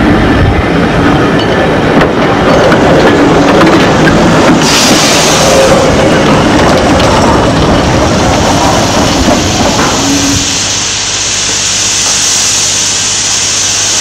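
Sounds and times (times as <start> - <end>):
train running past with hiss: 0.0 - 14.0.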